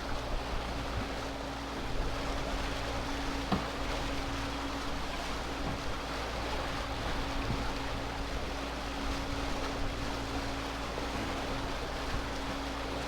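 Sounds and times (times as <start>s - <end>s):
boat engine hum: 0.0s - 13.0s
wind: 0.0s - 13.0s.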